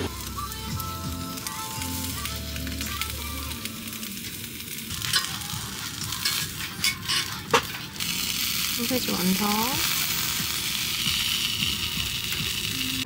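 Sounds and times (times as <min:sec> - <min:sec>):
sausages sizzling in a pan: 0:00.0 - 0:13.0.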